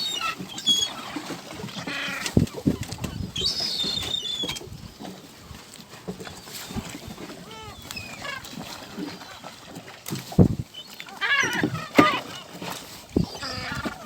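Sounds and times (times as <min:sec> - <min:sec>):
gulls calling: 0:00.0 - 0:04.7, 0:06.4 - 0:09.6, 0:10.4 - 0:14.0.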